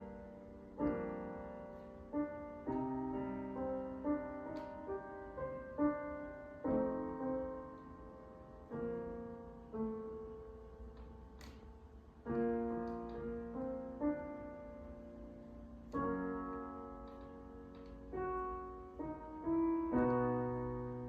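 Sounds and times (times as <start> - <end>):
slow piano chords and notes: 0.0 - 21.0.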